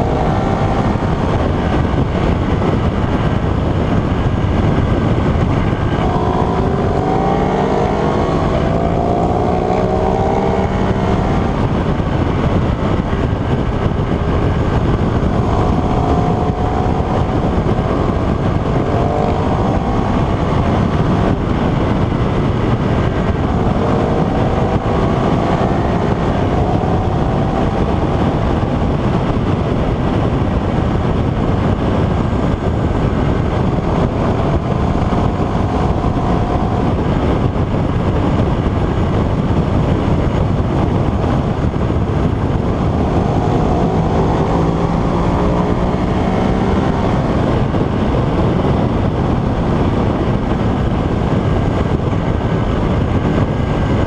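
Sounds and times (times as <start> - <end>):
motorcycle engine accelerating: 0.0 - 54.0
wind noise on microphone: 0.0 - 54.0.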